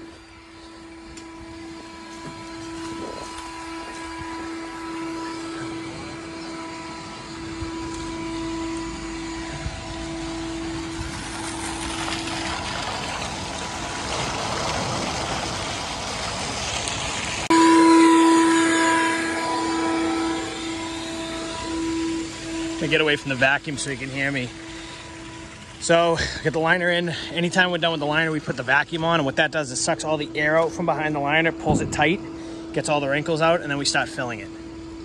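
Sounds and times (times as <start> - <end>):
water gushing from hose: 0.0 - 34.4
vacuum motor whining: 0.0 - 35.0.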